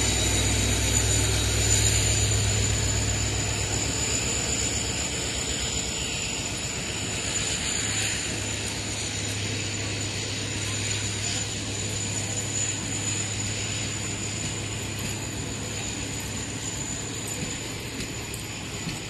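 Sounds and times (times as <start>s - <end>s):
train wheels rattling on rails: 0.0s - 19.0s.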